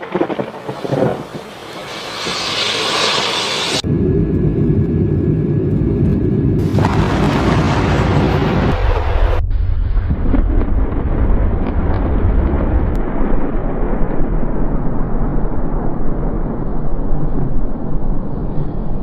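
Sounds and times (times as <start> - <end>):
thunder rumbling: 0.0 - 19.0
steady rushing noise: 0.6 - 19.0.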